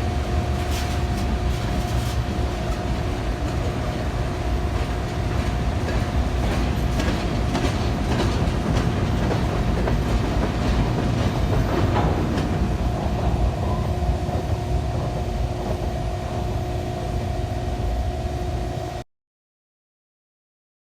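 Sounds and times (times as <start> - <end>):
freight train rumbling by: 0.0 - 19.0.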